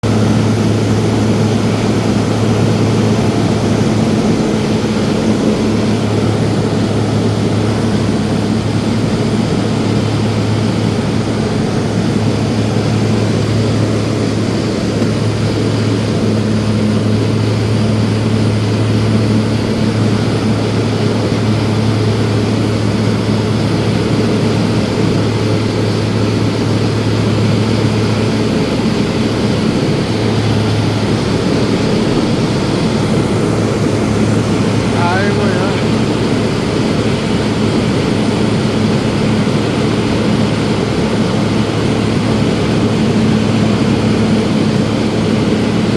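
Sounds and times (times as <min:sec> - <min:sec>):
propeller plane engine droning: 0:00.0 - 0:45.9.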